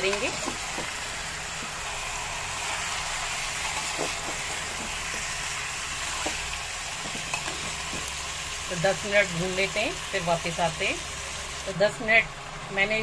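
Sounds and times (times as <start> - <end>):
meat sizzling in oil: 0.0 - 12.6.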